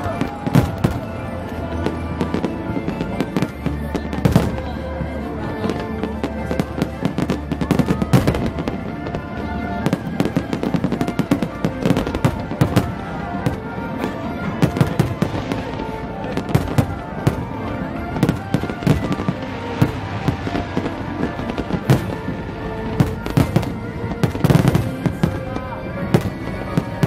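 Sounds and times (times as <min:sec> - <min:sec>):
fireworks bursting: 0:00.0 - 0:04.8, 0:05.6 - 0:27.0
music with long held notes: 0:00.0 - 0:27.0.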